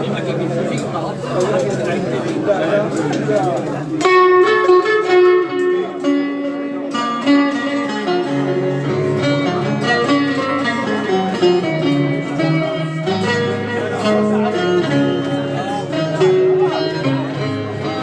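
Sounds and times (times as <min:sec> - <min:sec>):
plucked string instrument music: 0:00.0 - 0:18.0.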